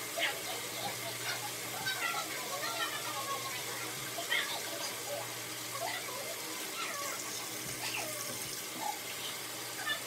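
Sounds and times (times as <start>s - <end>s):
sink tap running: 0.0s - 10.0s.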